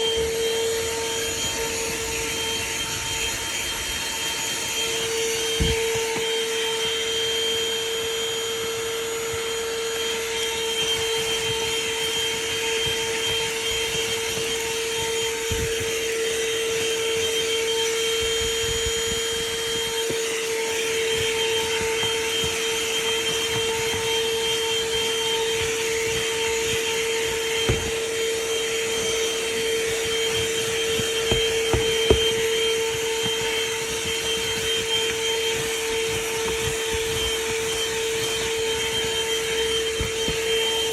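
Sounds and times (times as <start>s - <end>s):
handheld vacuum whining: 0.0s - 40.9s.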